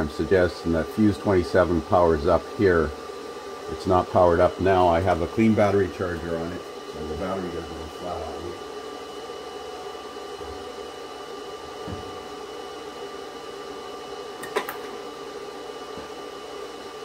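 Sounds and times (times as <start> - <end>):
electrical hum with high whine: 0.0 - 17.0.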